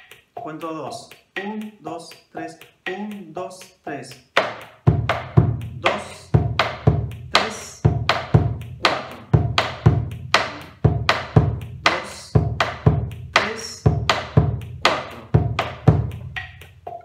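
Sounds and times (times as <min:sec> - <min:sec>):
folk drum struck with sticks: 0:00.0 - 0:17.0.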